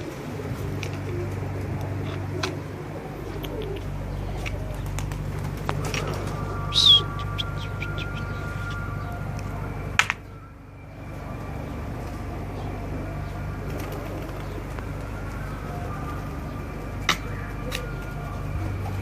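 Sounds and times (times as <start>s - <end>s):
pigeons cooing: 0.0s - 19.0s
steady low hum: 0.0s - 19.0s.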